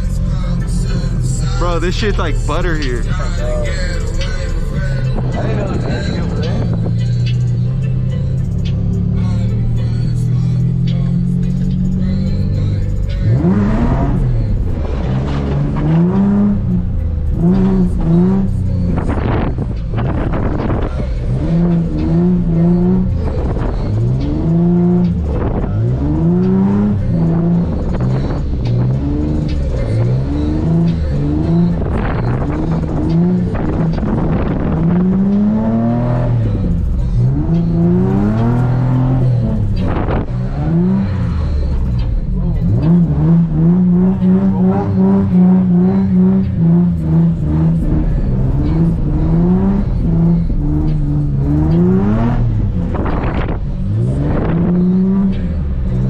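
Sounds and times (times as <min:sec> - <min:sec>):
car engine revving hard: 0:10.4 - 0:56.0.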